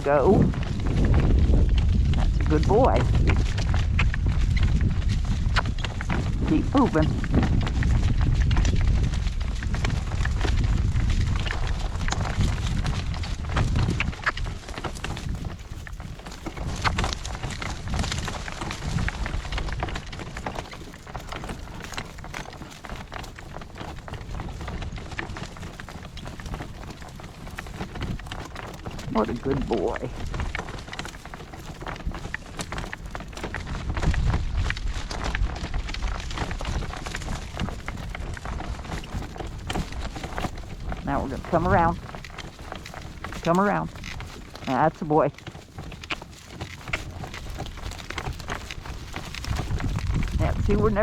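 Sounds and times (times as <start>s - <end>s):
cart rattling: 0.0s - 51.0s
horse walking in harness: 0.0s - 51.0s
wind buffeting microphone: 0.0s - 51.0s.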